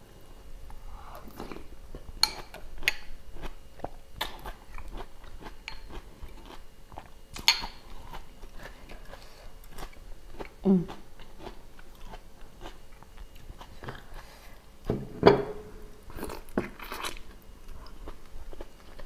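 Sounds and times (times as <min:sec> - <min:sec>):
person chewing and crunching: 0:01.2 - 0:14.8, 0:16.0 - 0:19.0.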